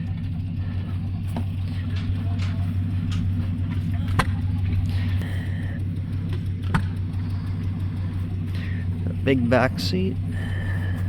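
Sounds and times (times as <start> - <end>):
engine idling drone: 0.0 - 11.0.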